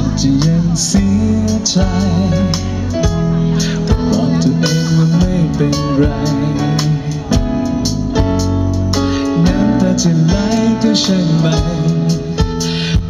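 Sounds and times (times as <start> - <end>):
drum kit: 0.0 - 13.0
man singing: 0.0 - 13.0.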